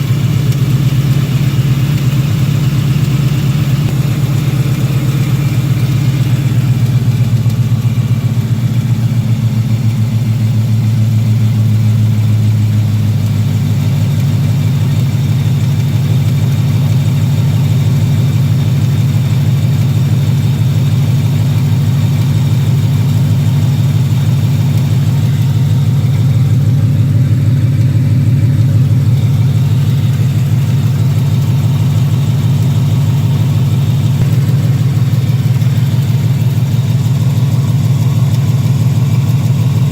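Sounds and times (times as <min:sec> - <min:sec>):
car engine idling: 0:00.0 - 0:39.9
engine ticking: 0:00.0 - 0:39.9.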